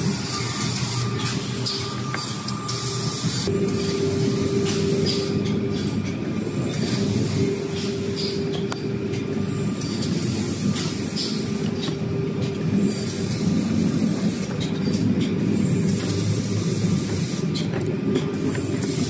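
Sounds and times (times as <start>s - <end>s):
machine rumbling: 0.0s - 19.0s.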